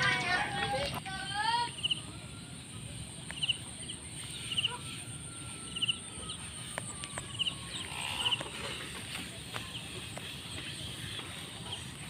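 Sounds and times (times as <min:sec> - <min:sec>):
steady high-pitched whine: 0:00.0 - 0:12.0.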